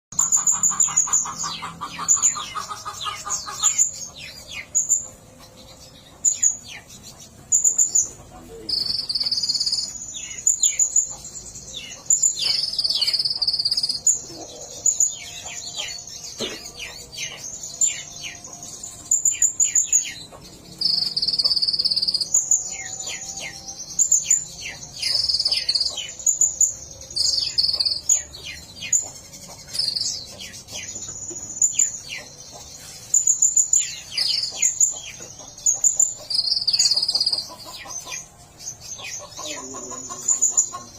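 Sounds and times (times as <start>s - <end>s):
songbird singing trills: 0.1s - 40.9s.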